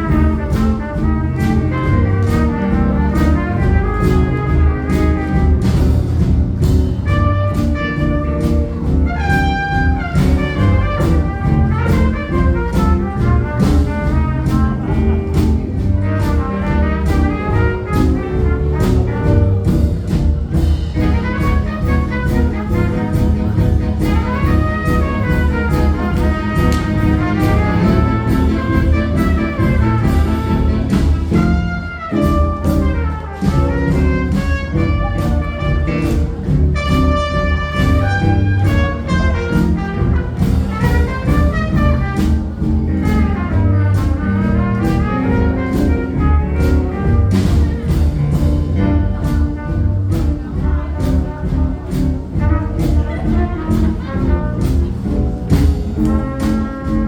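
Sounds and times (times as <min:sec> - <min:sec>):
brass horns: 0:00.0 - 0:57.0
drum beat: 0:00.0 - 0:57.0
jazz band playing: 0:00.0 - 0:57.0.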